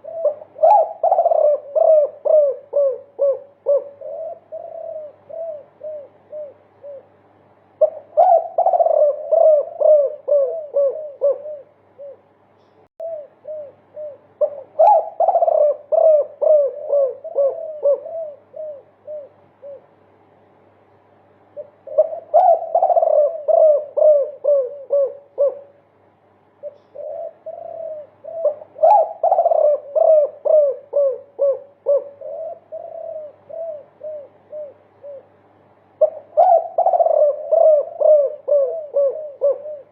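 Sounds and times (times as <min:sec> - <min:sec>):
dove cooing in quick runs: 0:00.0 - 0:07.0, 0:07.8 - 0:11.7, 0:14.4 - 0:19.8, 0:21.9 - 0:25.7, 0:26.6 - 0:35.3, 0:36.0 - 0:39.9.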